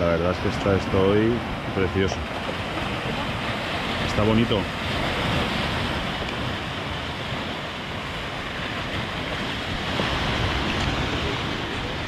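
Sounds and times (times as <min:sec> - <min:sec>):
sea waves washing onto shore: 0:00.0 - 0:12.0
wind: 0:00.0 - 0:12.0.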